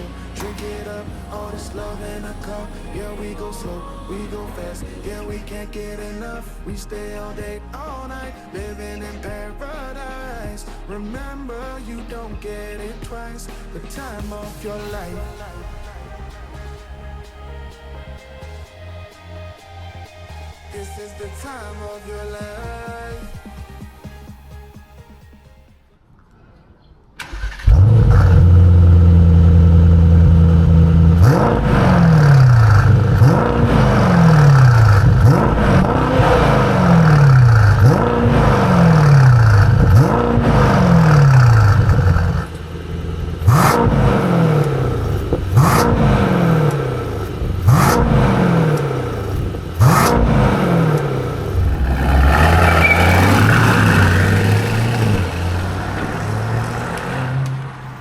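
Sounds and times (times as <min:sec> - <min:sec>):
car engine revving: 0:00.0 - 0:21.7, 0:27.2 - 0:58.0.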